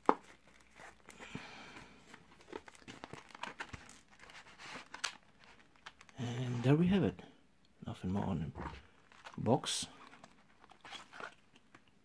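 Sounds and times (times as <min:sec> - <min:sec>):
packaging rustling and crinkling: 0:00.0 - 0:07.0, 0:08.6 - 0:11.9.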